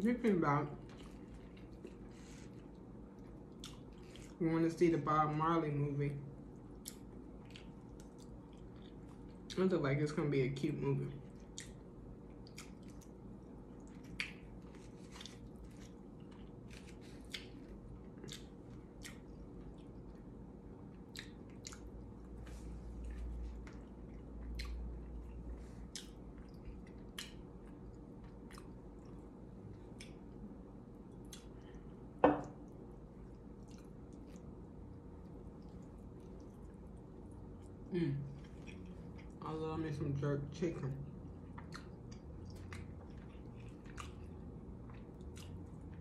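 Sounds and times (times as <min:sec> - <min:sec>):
close-up chewing: 0:00.8 - 0:04.4, 0:06.5 - 0:09.6, 0:11.2 - 0:32.0, 0:32.6 - 0:39.4, 0:41.1 - 0:46.0.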